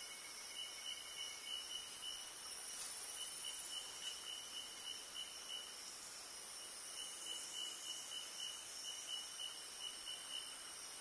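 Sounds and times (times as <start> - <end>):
high faint hiss: 0.0 - 11.0
insects trilling: 0.0 - 11.0.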